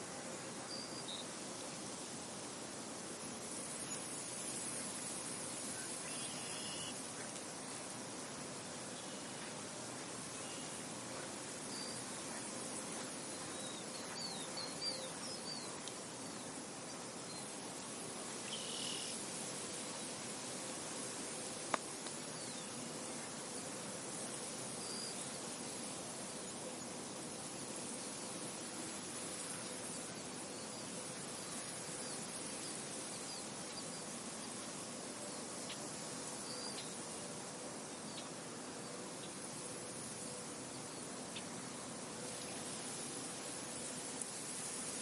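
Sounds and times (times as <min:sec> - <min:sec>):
soft wind hissing: 0:00.0 - 0:45.0.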